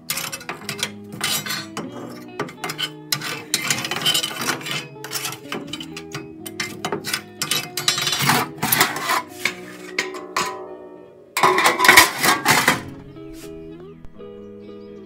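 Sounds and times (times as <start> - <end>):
metal scoop scraping ashes: 0.0 - 10.8, 11.4 - 13.6
background music: 0.0 - 15.0.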